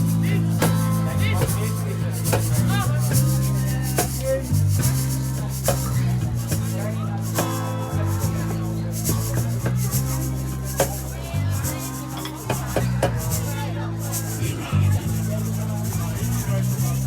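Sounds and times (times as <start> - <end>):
acoustic band low chords: 0.0 - 17.0
fast shaker rhythm: 0.0 - 17.0.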